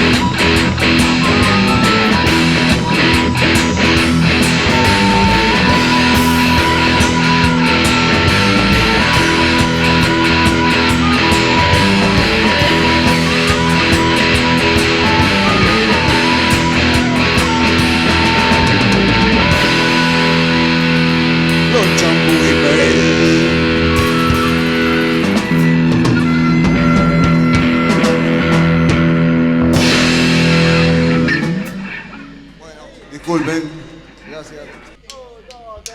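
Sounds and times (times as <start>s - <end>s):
electric guitar: 0.0s - 32.7s
rock band playing instrumental: 0.0s - 34.3s.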